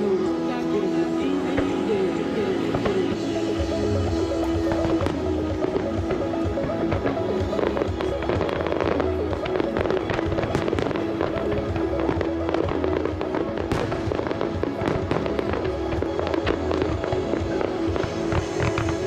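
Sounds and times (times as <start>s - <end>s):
music: 0.0s - 19.0s
fireworks bangs and crackles: 1.0s - 19.0s.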